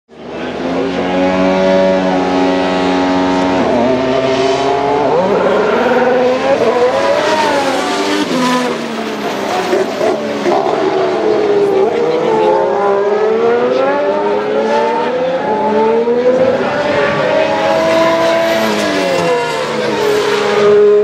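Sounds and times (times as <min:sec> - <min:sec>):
racing car engines: 0:00.1 - 0:21.0.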